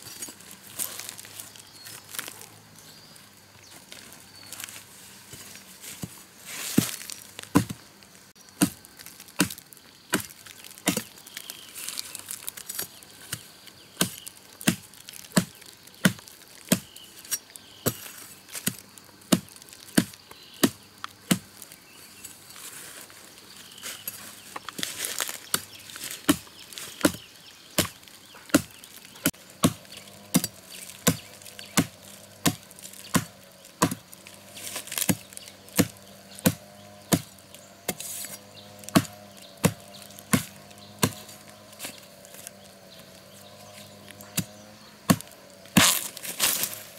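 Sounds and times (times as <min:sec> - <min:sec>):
blade chopping tubers: 0:06.0 - 0:21.8, 0:23.9 - 0:46.9.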